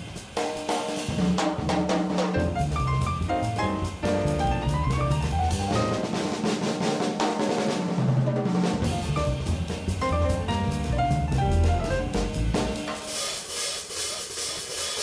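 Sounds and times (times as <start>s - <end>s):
drum hits and fills: 0.0s - 15.0s
jazz trio playing swing: 0.0s - 15.0s.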